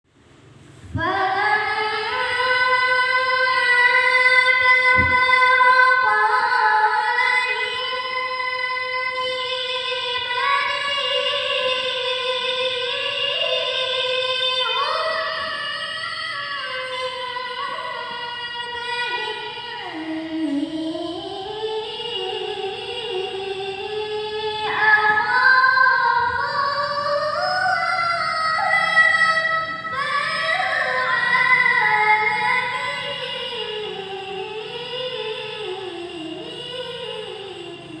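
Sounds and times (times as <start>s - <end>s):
woman reciting melodically: 0.6s - 38.0s.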